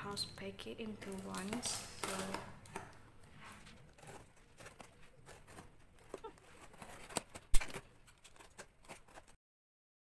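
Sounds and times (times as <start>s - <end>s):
packaging rustling and clicking: 1.0s - 9.4s.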